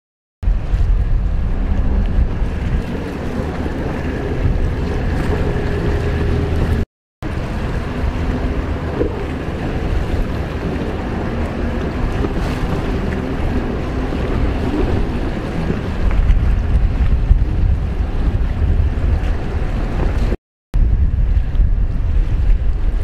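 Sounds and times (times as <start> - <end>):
wind rumble on microphone: 0.4 - 23.0
jet ski engines whining: 1.0 - 20.3.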